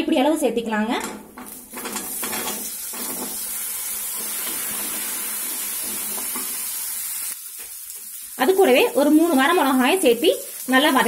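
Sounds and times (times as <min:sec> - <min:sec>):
shallots sizzling in oil: 0:01.4 - 0:11.0.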